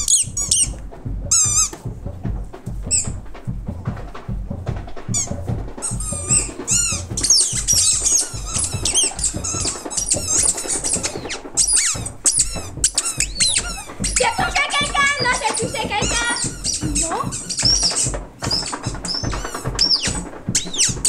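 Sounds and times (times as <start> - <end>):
high-pitched squeals: 0.0 - 1.8, 5.1 - 21.0
background music with beat: 0.0 - 21.0.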